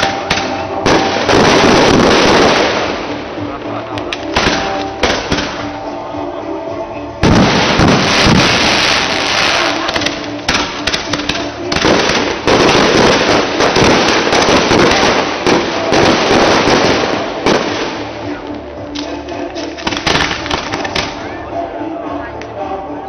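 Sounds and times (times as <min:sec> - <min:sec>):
fireworks crackling bangs: 0:00.0 - 0:05.8, 0:07.2 - 0:21.2.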